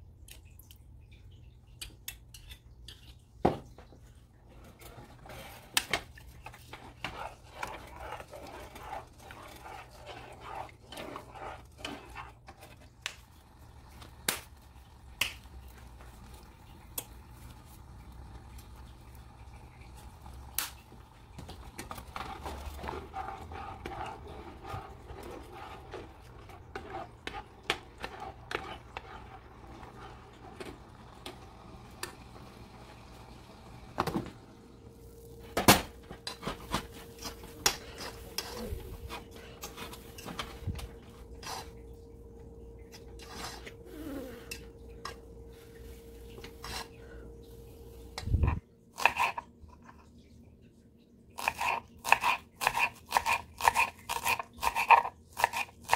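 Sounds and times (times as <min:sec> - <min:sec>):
spoon stirring rice in saucepan: 0:01.8 - 0:32.9, 0:34.9 - 0:50.2.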